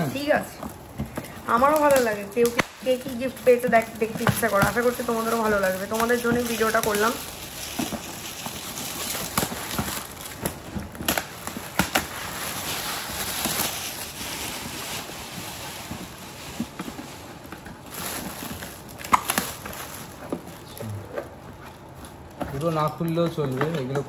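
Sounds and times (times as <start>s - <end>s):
wrapping paper rustling and tearing: 0.0s - 24.0s.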